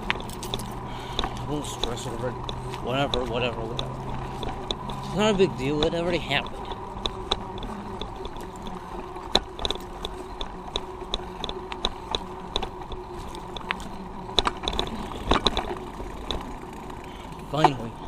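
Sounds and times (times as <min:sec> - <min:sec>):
bicycle riding noise: 0:00.0 - 0:18.0.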